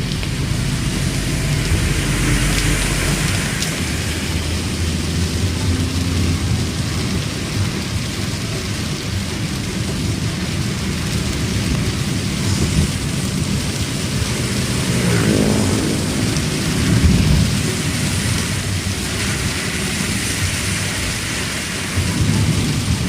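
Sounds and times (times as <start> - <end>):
car driving rumble: 0.0 - 23.0
heavy rain on car roof: 0.0 - 23.0.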